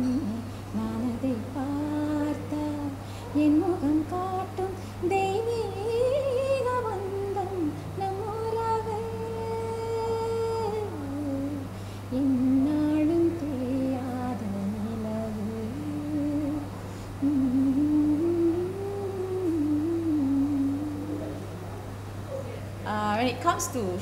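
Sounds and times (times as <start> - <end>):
woman humming a melody: 0.0 - 21.4
steady low hum: 0.0 - 24.0.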